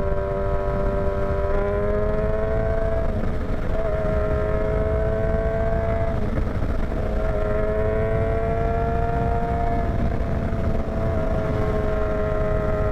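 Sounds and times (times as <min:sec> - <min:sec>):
motorcycle engine running: 0:00.0 - 0:12.9
wind rumble on microphone: 0:00.0 - 0:12.9.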